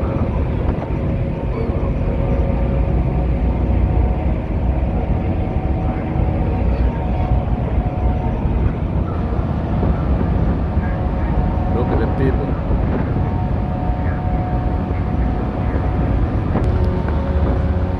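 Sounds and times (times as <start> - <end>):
ferry engines droning: 0.0 - 17.9
wind buffeting microphone: 0.0 - 17.9.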